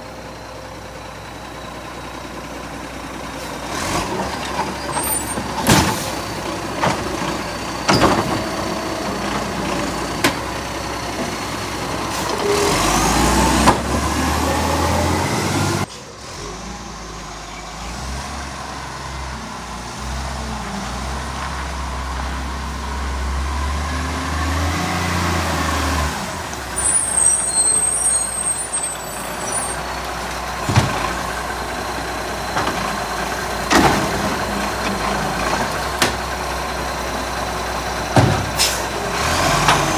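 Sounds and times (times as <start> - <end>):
garbage truck engine revving: 2.2 - 39.9.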